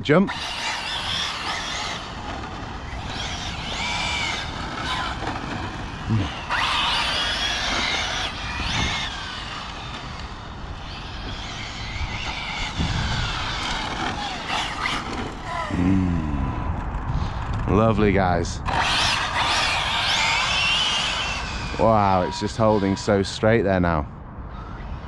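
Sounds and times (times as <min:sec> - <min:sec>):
steady low rumble: 0:00.0 - 0:25.0
rc car motor whine: 0:00.3 - 0:17.6, 0:18.6 - 0:23.5, 0:24.5 - 0:25.0.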